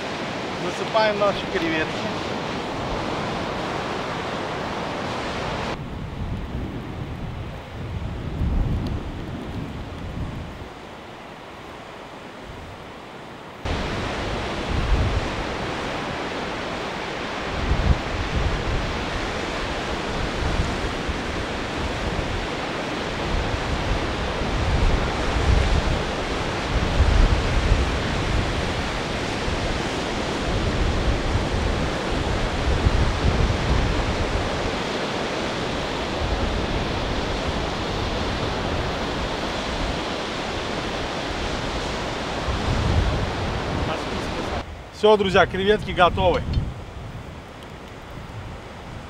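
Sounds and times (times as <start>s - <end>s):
wind buffeting microphone: 0.0s - 13.0s, 13.6s - 49.0s.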